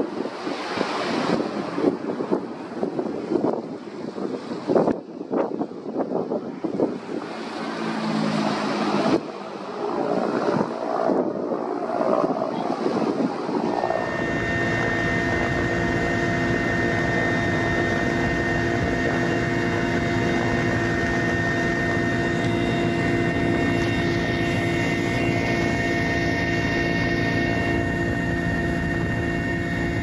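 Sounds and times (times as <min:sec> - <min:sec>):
constant whine: 0:00.0 - 0:30.0
helicopter rotor and engine noise: 0:00.0 - 0:30.0.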